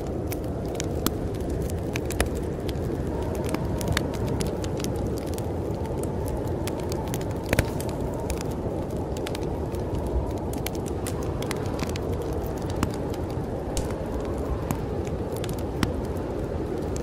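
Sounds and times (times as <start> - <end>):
storm wind rushing: 0.0 - 17.0
wood fire crackling: 0.0 - 17.0.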